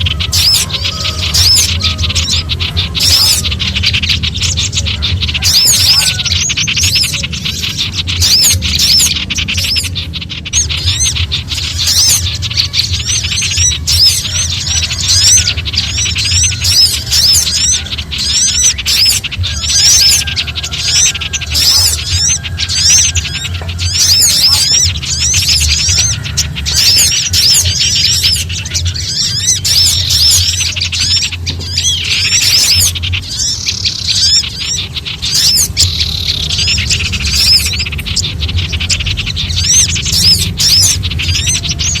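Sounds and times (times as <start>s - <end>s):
songbirds alarm calls: 0.0s - 42.0s
steady low hum: 0.0s - 42.0s.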